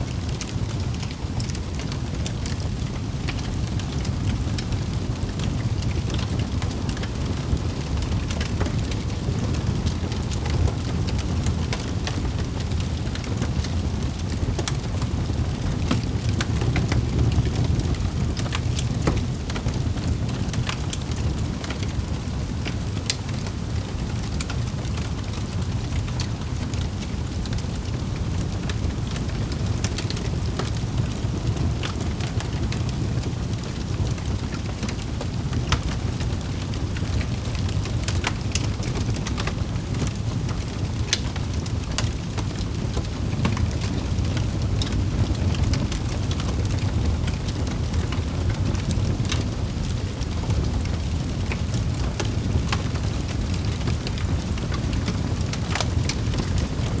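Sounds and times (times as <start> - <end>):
fire popping and snapping: 0.0 - 57.0
wood fire crackling: 0.0 - 57.0.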